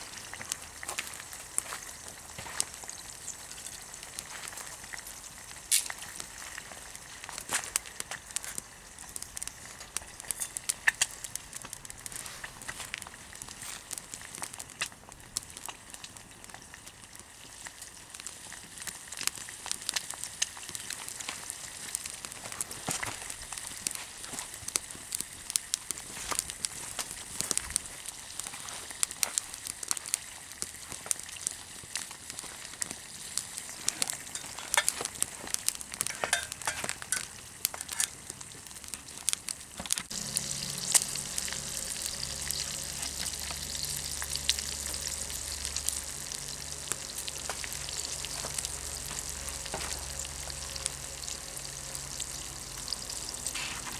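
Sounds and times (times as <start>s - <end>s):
bacon and eggs sizzling in a pan: 0.0s - 53.9s.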